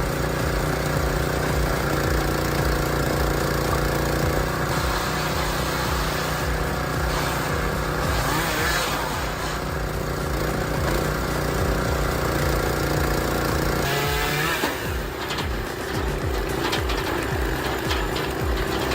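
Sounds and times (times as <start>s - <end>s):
machine engine running steadily: 0.0s - 18.9s.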